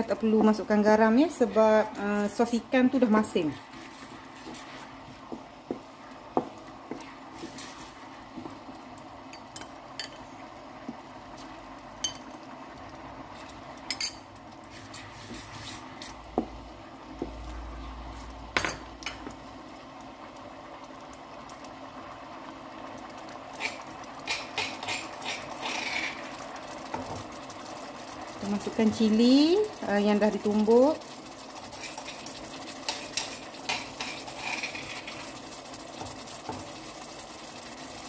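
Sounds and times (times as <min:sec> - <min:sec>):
low cooking noise: 0:00.0 - 0:38.0.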